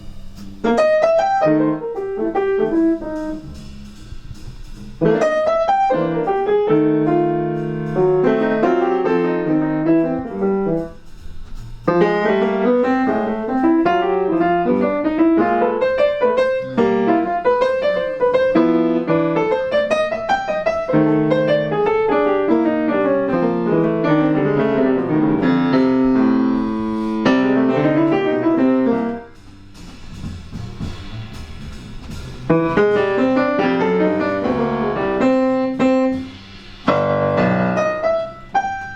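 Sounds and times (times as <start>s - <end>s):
jazz piano playing: 0.0s - 38.9s.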